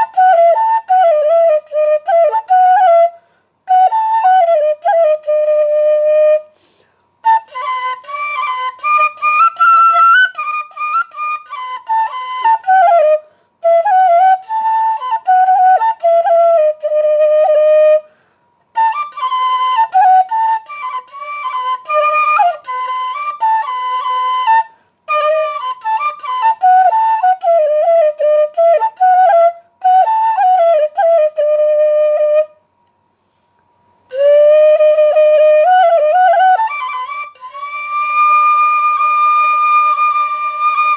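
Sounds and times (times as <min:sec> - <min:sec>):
solo flute melody: 0:00.0 - 0:32.8, 0:33.9 - 0:40.9.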